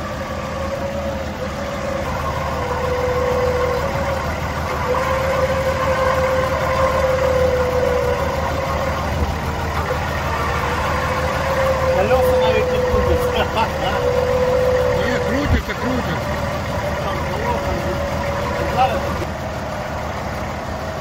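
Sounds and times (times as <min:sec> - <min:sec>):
engine idling: 0:00.0 - 0:21.0
high whine: 0:00.0 - 0:21.0.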